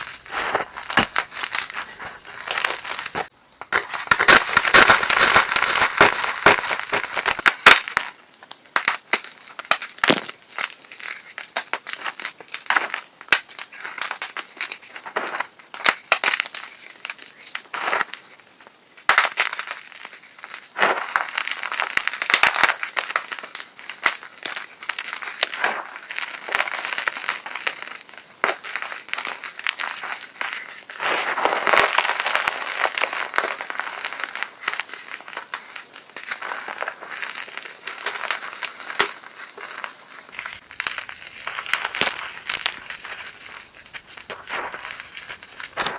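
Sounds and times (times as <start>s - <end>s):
chalk crunching and crackling: 0.0s - 45.9s.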